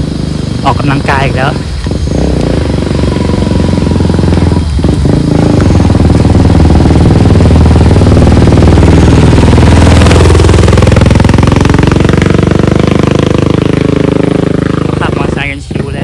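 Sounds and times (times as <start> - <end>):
small motorcycle engine labouring: 0.0 - 16.0.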